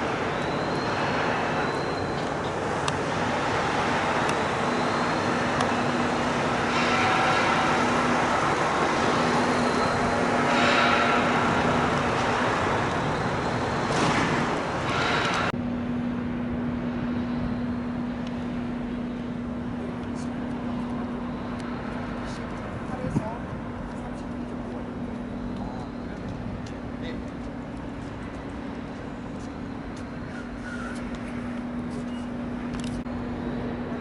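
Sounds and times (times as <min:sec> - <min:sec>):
engine and tyre hum: 0:00.0 - 0:34.0
vehicles passing: 0:00.0 - 0:34.0.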